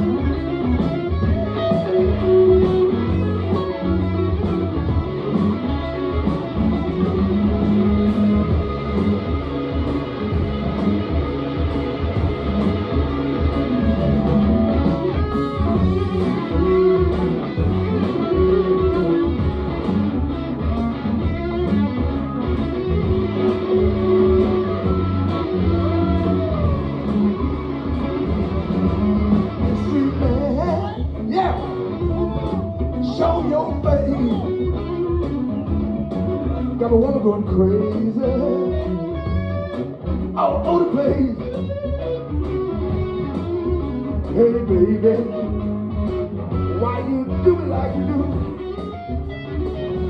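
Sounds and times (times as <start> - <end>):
bass: 0.0 - 50.0
electric guitars: 0.0 - 50.0
steady drum beat: 0.0 - 50.0.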